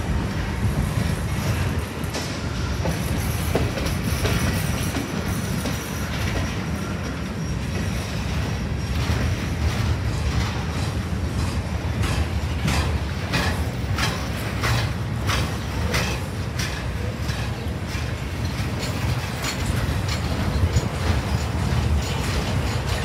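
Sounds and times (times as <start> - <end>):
train wheels rumbling on rail: 0.0 - 23.0
wheels clacking over rail joints: 0.1 - 23.0.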